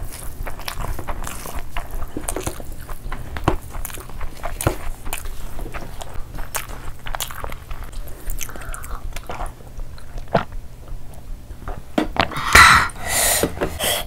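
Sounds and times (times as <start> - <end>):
chewing and mouth sounds: 0.0 - 11.3.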